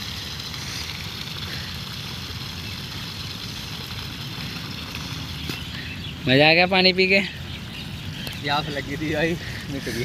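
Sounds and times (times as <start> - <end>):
water running from hose: 0.0 - 10.0.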